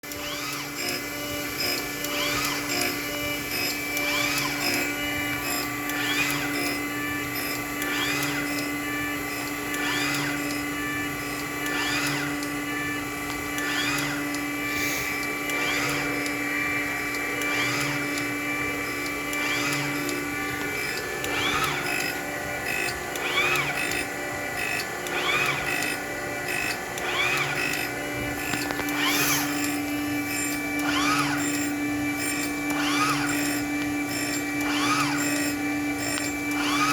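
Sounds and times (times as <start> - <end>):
grinding whine: 0.0 - 36.9
motor hum: 0.0 - 36.9.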